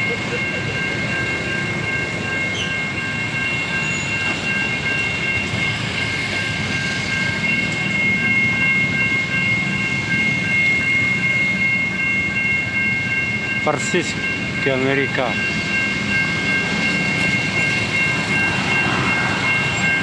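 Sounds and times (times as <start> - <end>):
level crossing warning siren: 0.0 - 20.0
passing train: 0.0 - 20.0.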